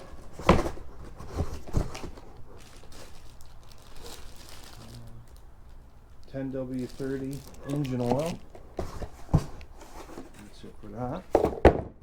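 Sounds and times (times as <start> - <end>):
packaging rustling and crinkling: 0.0 - 11.5.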